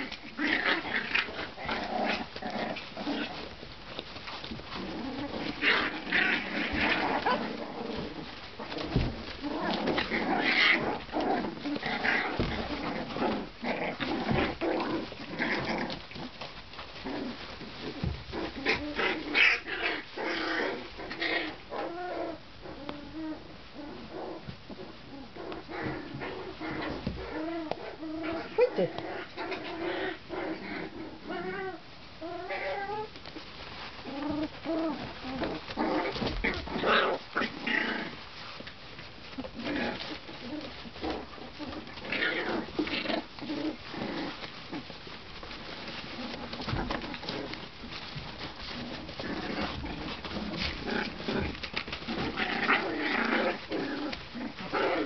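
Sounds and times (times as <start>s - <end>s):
puppies whining and squeaking: 0.0s - 30.2s, 30.8s - 55.0s
bedding rustling: 0.0s - 55.0s.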